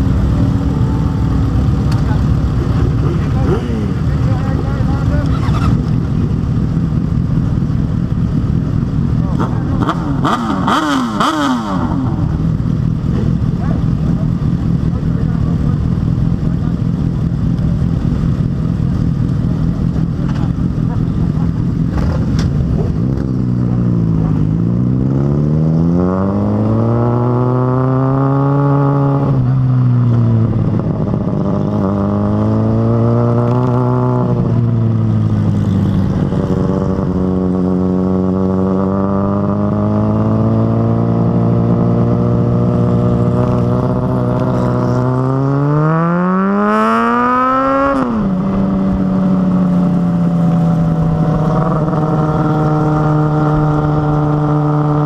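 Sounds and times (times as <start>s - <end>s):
motorcycle accelerating through gears: 0.0s - 55.0s.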